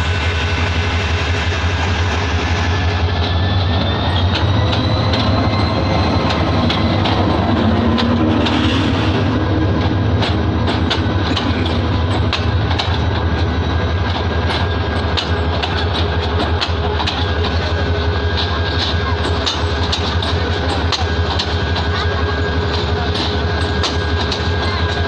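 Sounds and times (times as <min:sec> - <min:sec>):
train coaches rumbling past: 0:00.0 - 0:25.0
wheels clacking over rail joints: 0:03.1 - 0:25.0.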